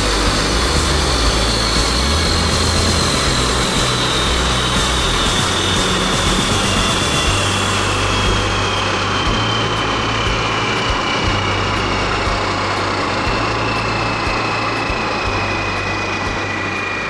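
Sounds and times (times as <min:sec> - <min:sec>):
broad rushing noise: 0:00.0 - 0:17.0
model plane propeller motors whining: 0:00.0 - 0:17.0.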